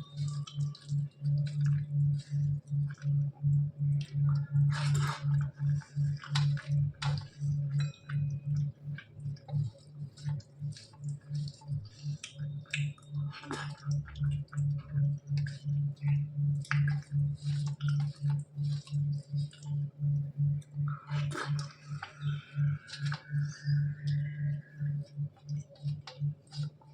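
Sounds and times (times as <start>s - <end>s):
person chewing food: 0.1s - 26.9s.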